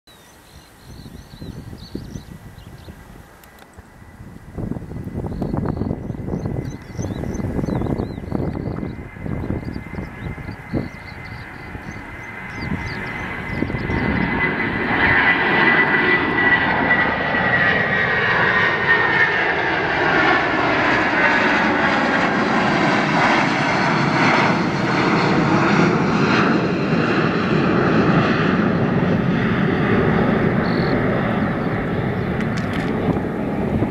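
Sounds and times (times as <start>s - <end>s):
jet engines at takeoff: 0.1s - 33.9s.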